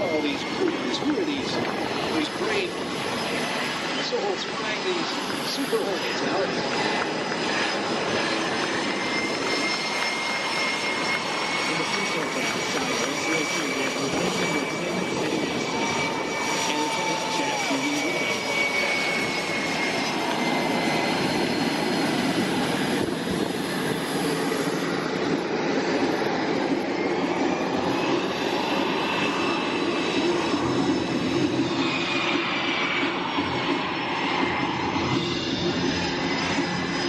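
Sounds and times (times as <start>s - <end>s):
aircraft engines roaring: 0.0s - 37.0s.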